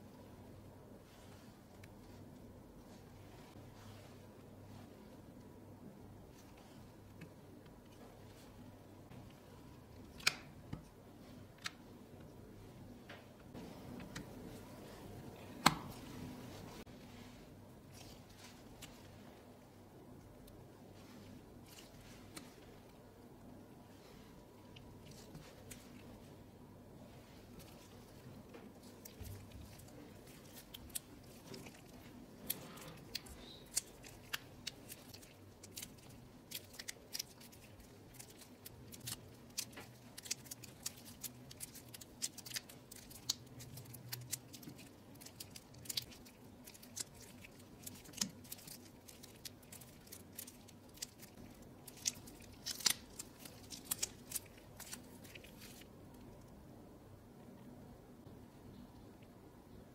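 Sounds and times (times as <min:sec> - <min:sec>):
sticky fondant kneaded crackling: 0:00.0 - 0:56.7.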